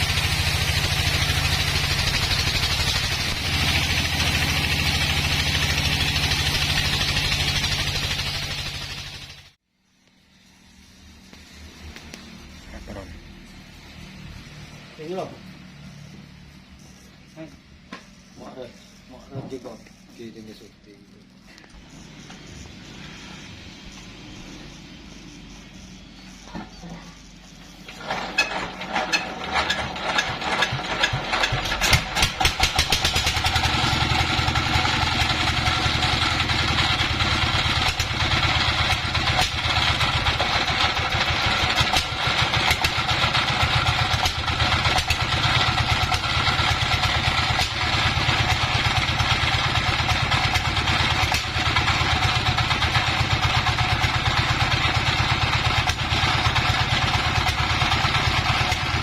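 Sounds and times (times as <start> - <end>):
engine starting and running: 0.0 - 59.0.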